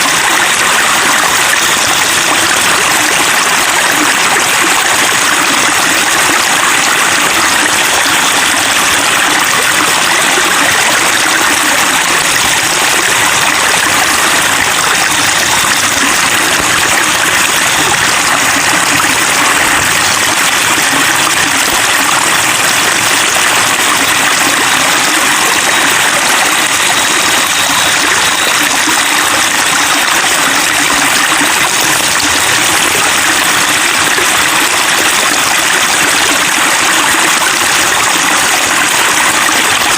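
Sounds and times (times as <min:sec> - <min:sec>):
running water babbling: 0:00.0 - 0:39.9.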